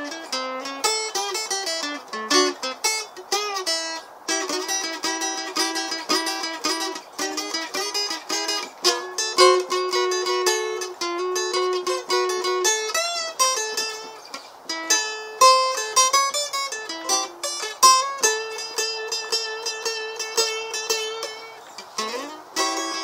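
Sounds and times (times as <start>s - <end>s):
acoustic guitar melody: 0.0s - 23.0s.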